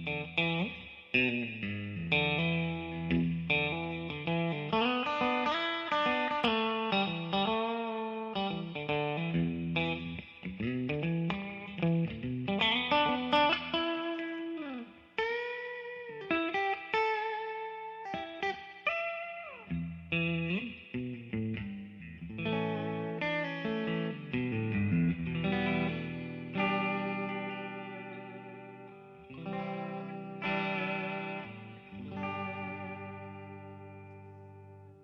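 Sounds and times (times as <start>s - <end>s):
electric guitar playing: 0.0s - 35.0s.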